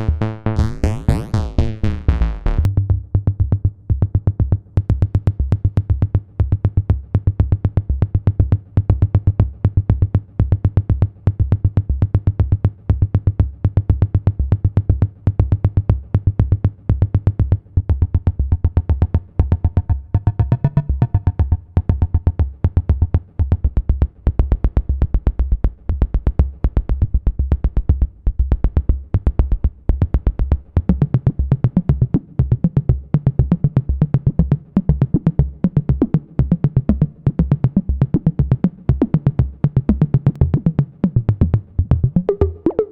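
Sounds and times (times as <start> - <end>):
drum machine pulse: 0.0 - 42.9
synthesizer bass line: 0.0 - 42.9.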